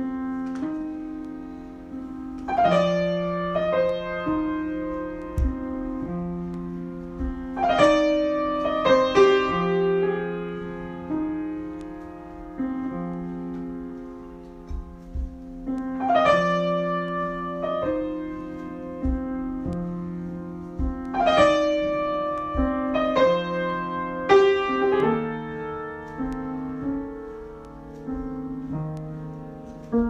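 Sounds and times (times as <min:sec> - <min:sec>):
piano chords ringing: 0:00.0 - 0:30.0.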